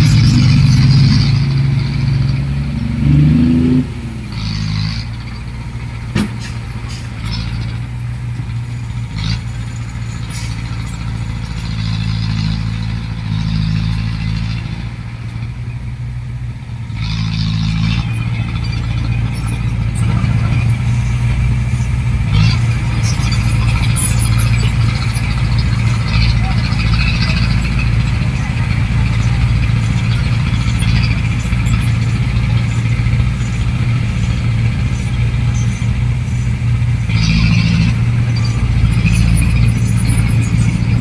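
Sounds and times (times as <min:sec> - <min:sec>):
heavy diesel engine revving: 0:00.0 - 0:41.0.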